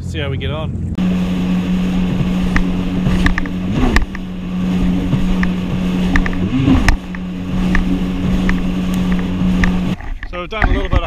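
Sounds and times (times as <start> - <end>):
jet ski engine droning: 0.0 - 10.2
wind and water rushing: 1.0 - 10.7
hull slapping water: 1.0 - 11.0.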